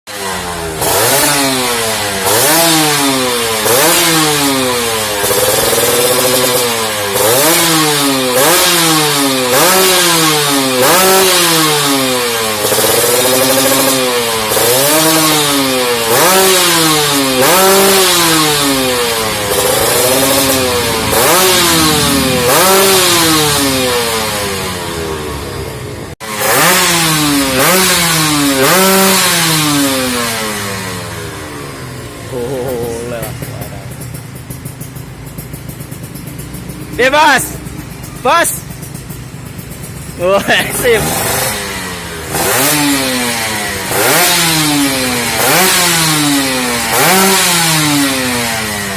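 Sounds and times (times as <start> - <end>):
motorcycle engine revving: 0.1 - 48.9.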